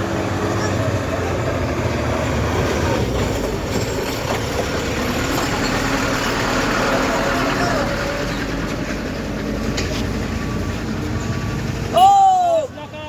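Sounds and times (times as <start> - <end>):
road and traffic noise: 0.0 - 13.0
truck engine rumbling: 0.0 - 13.0.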